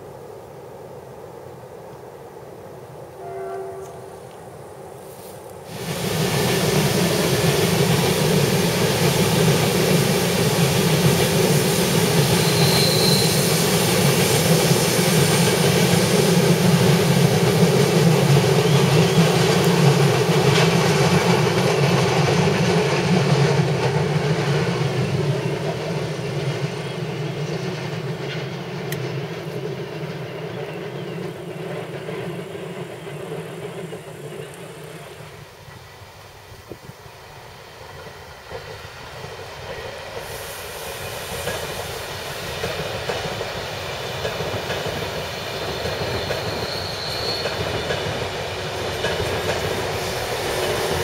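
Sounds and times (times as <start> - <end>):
train wheels rumbling on rails: 3.2 - 51.0.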